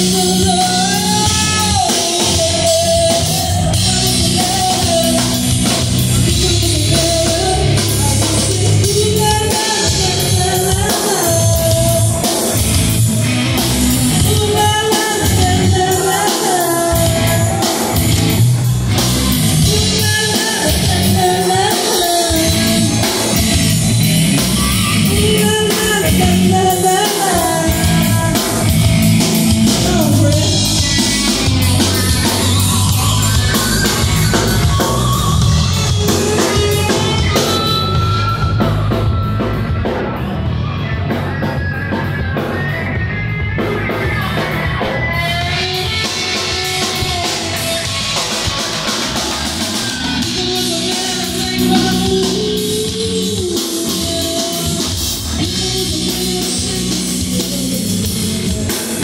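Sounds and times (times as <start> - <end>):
woman singing: 0.0 - 12.7, 13.9 - 18.1, 19.5 - 24.0, 24.8 - 38.6, 43.6 - 48.6, 49.6 - 59.0
bass guitar: 0.0 - 59.0
drum kit: 0.0 - 59.0
electric guitar: 0.0 - 59.0.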